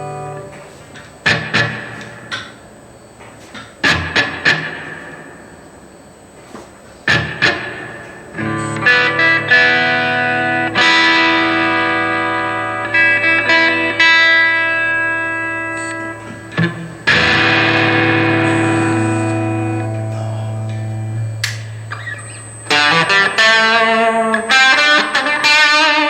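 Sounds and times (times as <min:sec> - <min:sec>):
electric guitar chords with reverb: 0:00.0 - 0:02.5, 0:03.8 - 0:05.6, 0:07.1 - 0:26.0.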